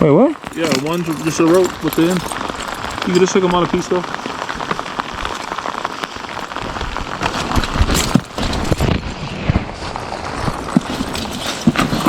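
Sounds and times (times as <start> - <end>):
rain patter: 0.0 - 12.0.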